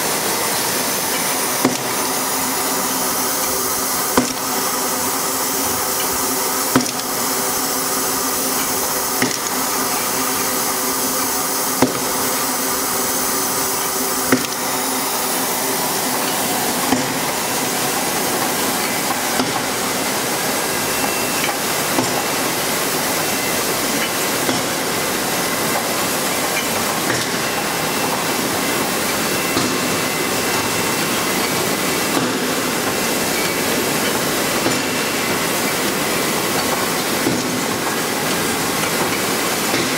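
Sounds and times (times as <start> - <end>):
machine hiss and whirr: 0.0 - 39.9.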